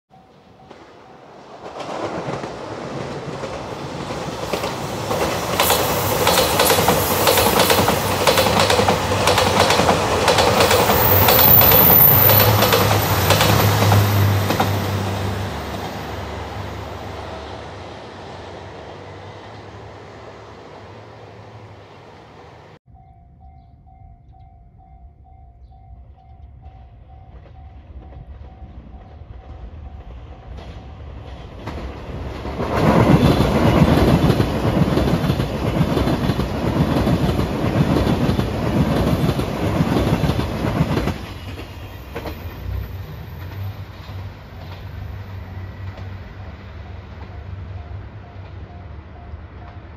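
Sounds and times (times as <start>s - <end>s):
diesel train passing: 0.1s - 49.9s.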